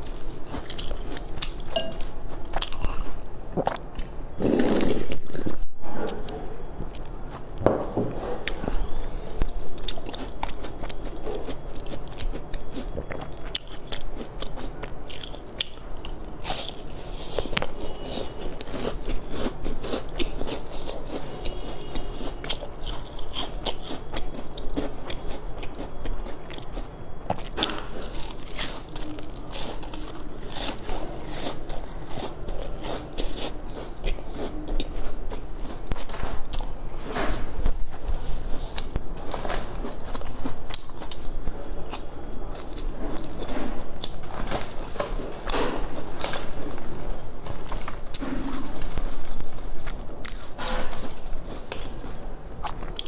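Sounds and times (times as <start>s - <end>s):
crunchy pastry chewing: 0.0s - 7.6s, 8.3s - 53.0s.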